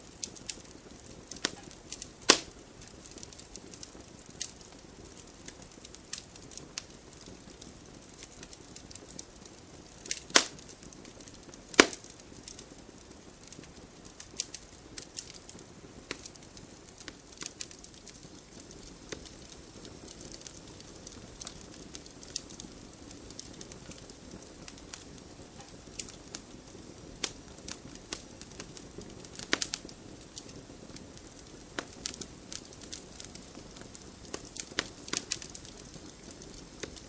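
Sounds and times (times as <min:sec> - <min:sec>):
flames rushing: 0:00.0 - 0:37.0
wood fire crackling and popping: 0:00.0 - 0:37.0.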